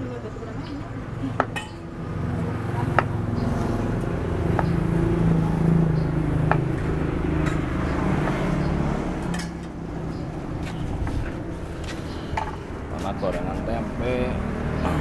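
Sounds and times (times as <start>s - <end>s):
motorbike engine passing: 0.0s - 15.0s.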